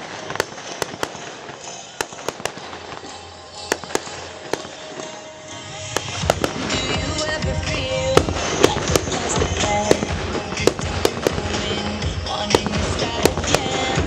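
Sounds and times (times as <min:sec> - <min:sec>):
fireworks bursting with bangs: 0:00.0 - 0:14.0.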